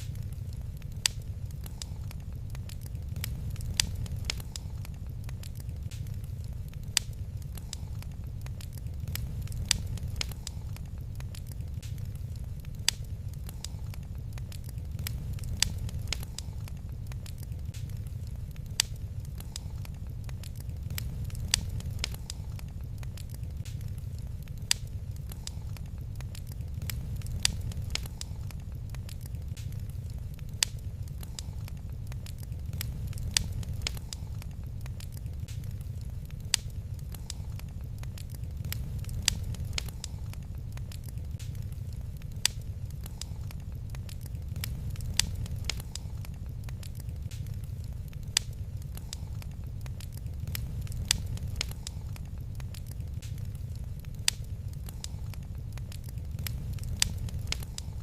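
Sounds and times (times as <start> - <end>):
fire crackling and popping: 0.0 - 58.0
low rumble: 0.0 - 58.0.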